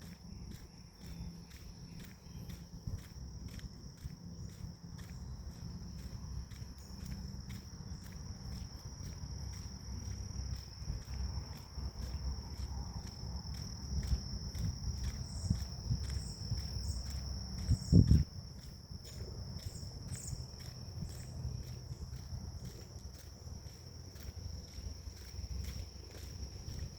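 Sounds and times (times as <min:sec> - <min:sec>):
crickets trilling: 0:00.0 - 0:26.9.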